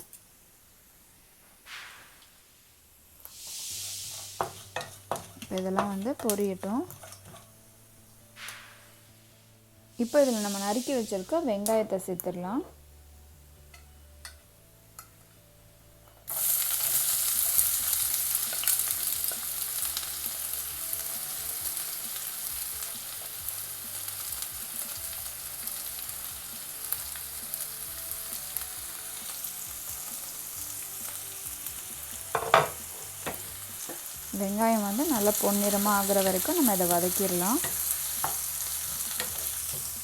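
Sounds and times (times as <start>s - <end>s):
onions sizzling in hot oil: 0.0s - 12.7s, 16.1s - 40.0s.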